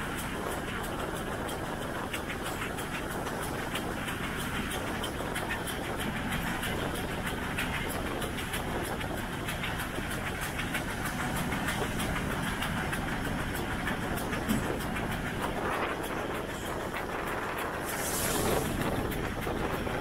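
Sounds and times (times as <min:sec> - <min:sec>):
steam train wheels on rail: 0:00.0 - 0:20.0.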